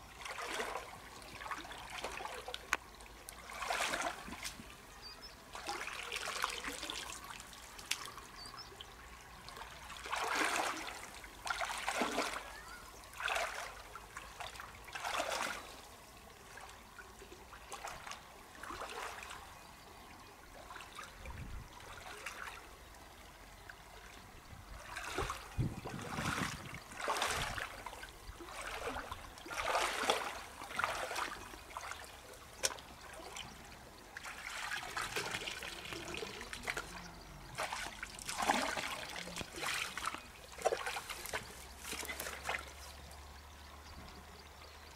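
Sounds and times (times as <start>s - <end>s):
water sloshing and splashing: 0.0s - 44.2s
river water trickling: 0.0s - 44.9s.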